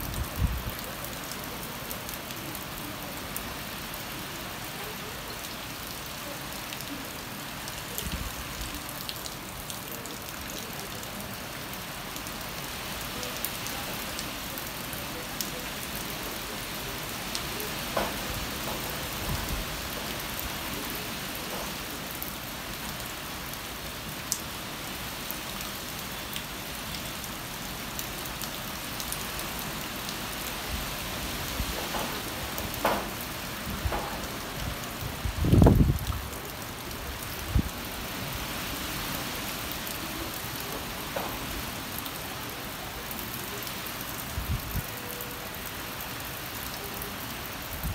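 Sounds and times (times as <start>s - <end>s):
rain falling on trees: 0.0s - 47.9s.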